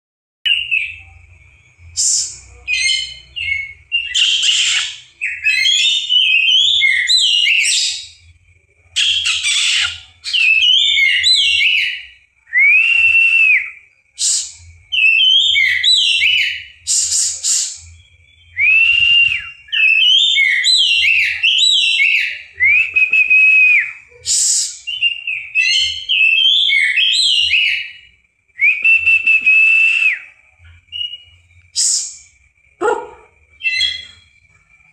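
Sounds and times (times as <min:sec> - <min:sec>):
bird singing chirps and whistles: 0:00.5 - 0:34.9.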